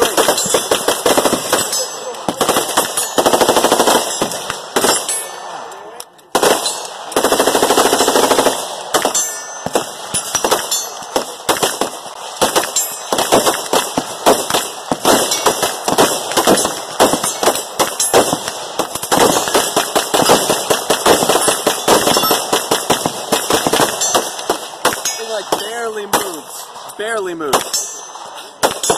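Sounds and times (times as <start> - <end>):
rifle shooting close by: 0.0 - 5.1, 6.3 - 26.9, 28.6 - 28.9
many guns firing rapidly: 0.0 - 5.2, 6.3 - 27.8, 28.6 - 28.9.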